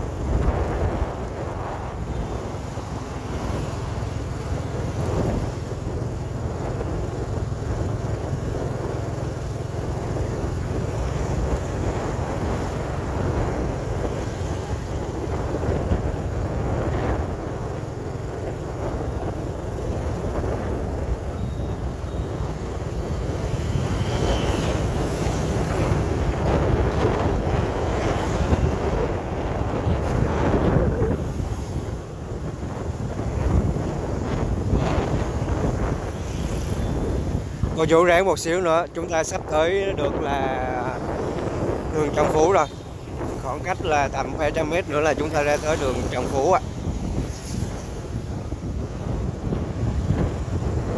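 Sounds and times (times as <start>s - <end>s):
traffic noise: 0.0s - 50.9s
wind buffeting microphone: 0.0s - 50.9s.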